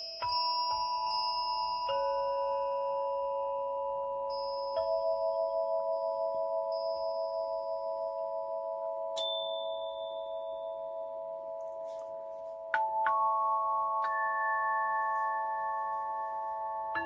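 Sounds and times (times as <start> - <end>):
bright chime struck: 0.0 - 17.0
held bell-like tones: 0.0 - 17.0.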